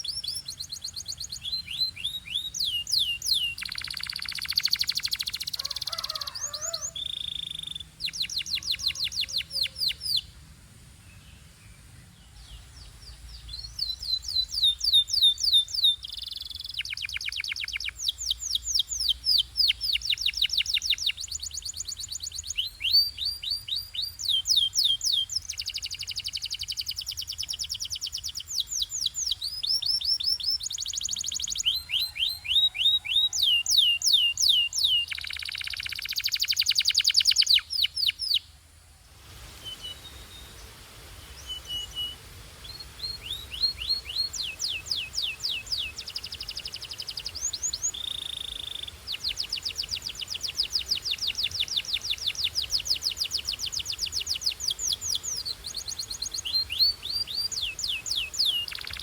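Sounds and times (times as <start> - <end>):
canary singing trills: 0.0 - 10.3, 11.2 - 38.5, 39.6 - 59.0.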